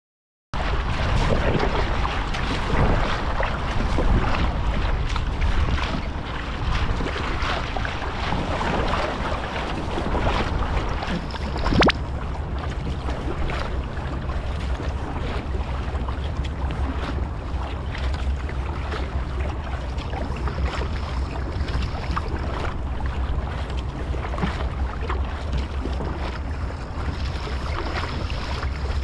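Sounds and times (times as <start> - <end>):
water slapping against kayak: 0.6 - 29.0
wind buffeting microphone: 0.6 - 29.0.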